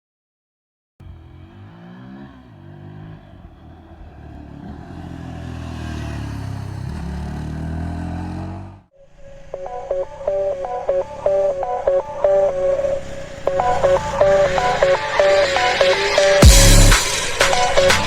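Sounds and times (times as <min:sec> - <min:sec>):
motorcycle engine revving: 0:01.0 - 0:08.9, 0:09.7 - 0:18.0.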